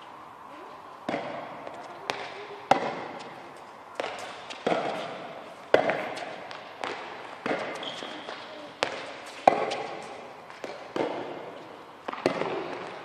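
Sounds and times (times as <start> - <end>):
ball bouncing on indoor court: 1.0 - 13.0
tennis ball hit with rackets: 1.0 - 13.0.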